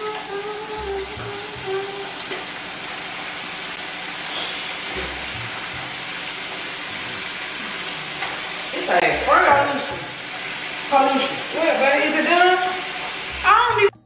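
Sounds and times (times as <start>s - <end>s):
bacon sizzling in a pan: 0.0s - 14.0s.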